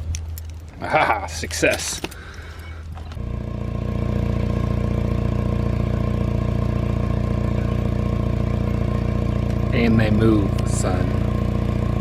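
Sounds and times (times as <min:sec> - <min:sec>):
lawnmower engine idling: 0:01.8 - 0:12.0.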